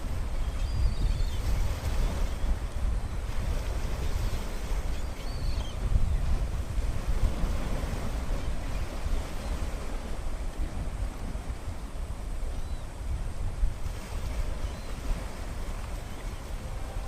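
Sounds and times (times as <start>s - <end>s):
sea surf: 0.0s - 17.0s
wind buffeting microphone: 0.0s - 17.0s.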